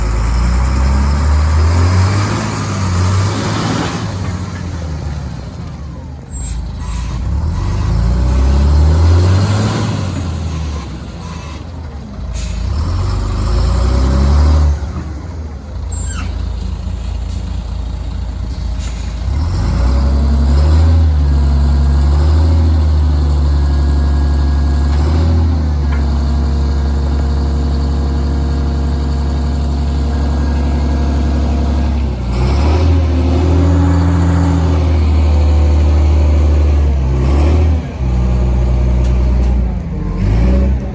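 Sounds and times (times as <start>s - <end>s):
diesel truck engine revving: 0.0s - 40.9s.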